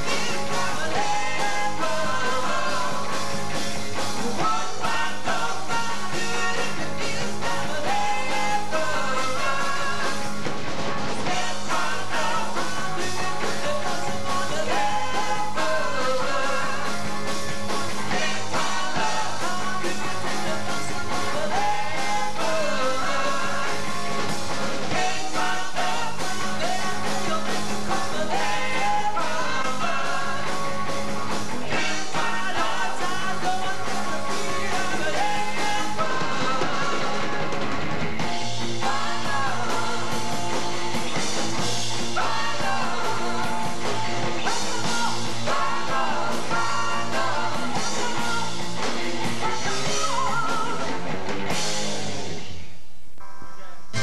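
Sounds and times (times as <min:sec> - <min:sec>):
man singing lead: 0:00.0 - 0:37.6, 0:38.4 - 0:51.2
rock band playing: 0:00.0 - 0:54.0.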